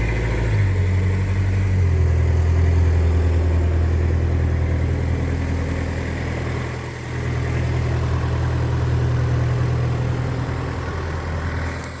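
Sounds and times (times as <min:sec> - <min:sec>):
loader engine running: 0:00.0 - 0:12.0.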